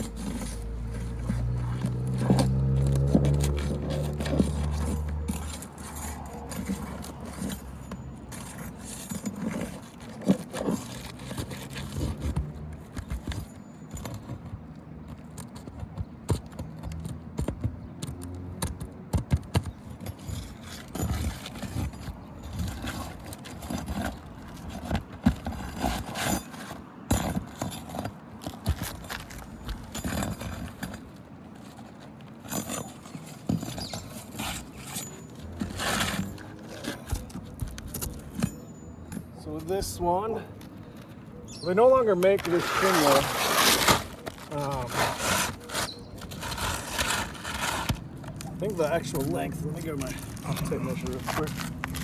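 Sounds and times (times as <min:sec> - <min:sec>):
hand tools scraping on shingles: 0:00.0 - 0:14.6, 0:19.5 - 0:52.0.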